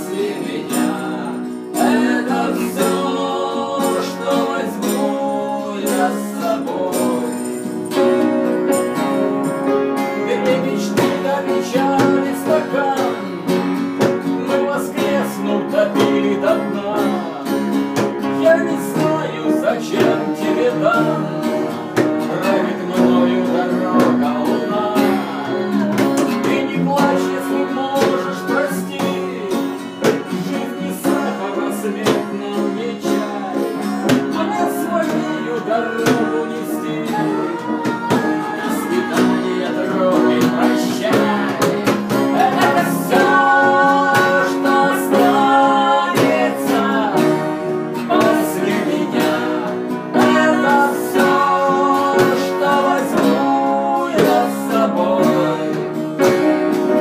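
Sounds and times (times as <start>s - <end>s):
acoustic guitar strumming: 0.0s - 57.0s
upright piano: 0.0s - 57.0s.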